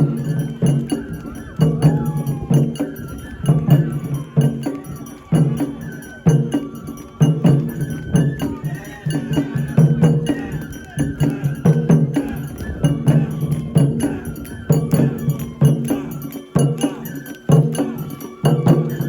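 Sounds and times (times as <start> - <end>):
small metal bell clanging: 0.0 - 19.0
taiko drums beating: 0.0 - 19.0.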